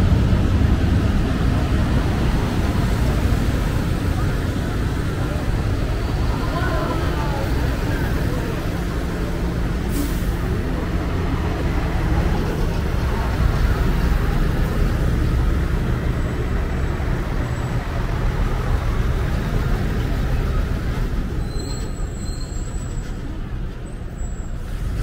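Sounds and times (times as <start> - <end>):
heavy engine rumble: 0.0 - 25.0
road noise: 0.0 - 25.0.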